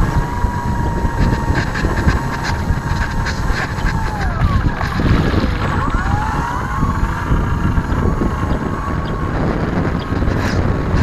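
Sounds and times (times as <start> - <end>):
model plane motor whine: 0.0 - 11.0
wind on microphone: 0.0 - 11.0.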